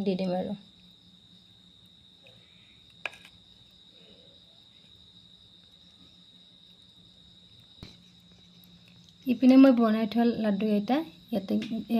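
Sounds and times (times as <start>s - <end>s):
cricket trilling: 0.0s - 11.9s.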